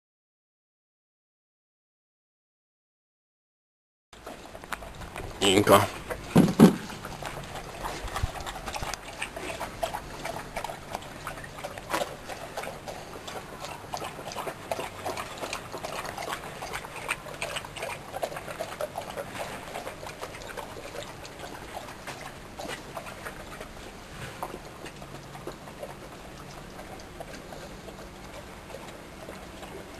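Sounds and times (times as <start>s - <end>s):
dog lapping from metal bowl: 4.2s - 29.9s.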